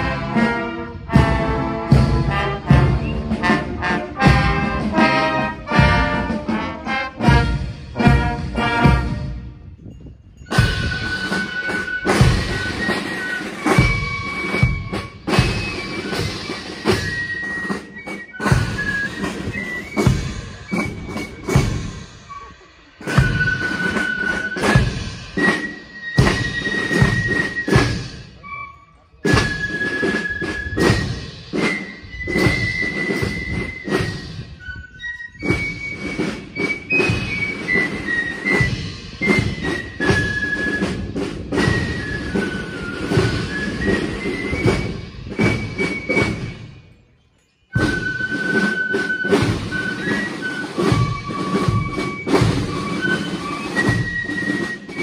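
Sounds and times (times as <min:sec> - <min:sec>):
drums beating: 0:00.0 - 0:09.4, 0:10.4 - 0:22.3, 0:23.0 - 0:28.5, 0:29.2 - 0:34.6, 0:35.4 - 0:46.8, 0:47.8 - 0:55.0
marching band playing: 0:00.0 - 0:09.8, 0:10.4 - 0:47.0, 0:47.7 - 0:55.0.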